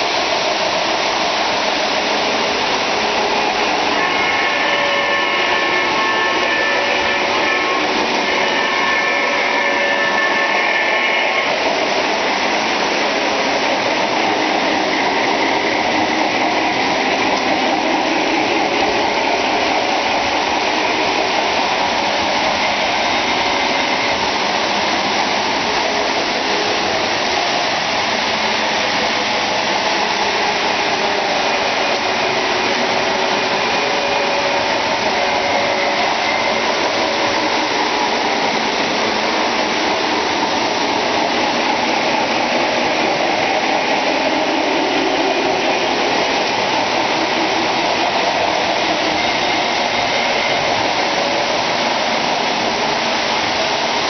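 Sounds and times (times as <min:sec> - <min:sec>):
model trains whirring on track: 0:00.0 - 0:54.0.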